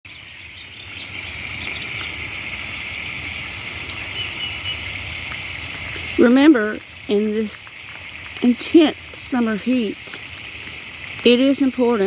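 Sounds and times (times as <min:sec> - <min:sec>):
insects droning: 0:00.1 - 0:12.0.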